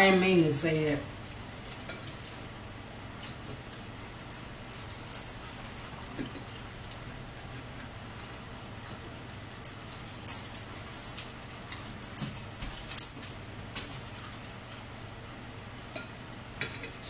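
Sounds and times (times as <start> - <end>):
steady low hum: 0.0 - 17.0
chewing and mouth noises: 1.1 - 17.0.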